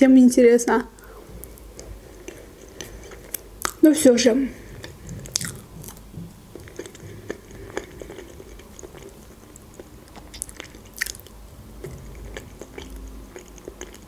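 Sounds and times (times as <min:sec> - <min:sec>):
person chewing: 0:01.0 - 0:03.9, 0:04.6 - 0:14.0.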